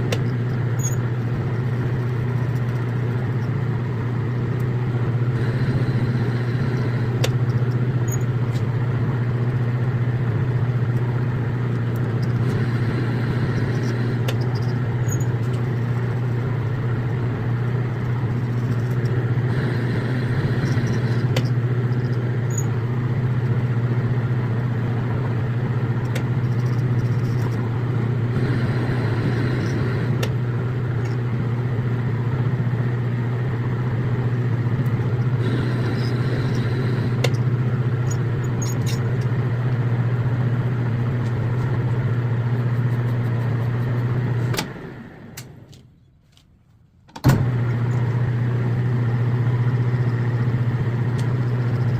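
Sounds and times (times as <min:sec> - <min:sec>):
metal lathe humming: 0:00.0 - 0:45.7.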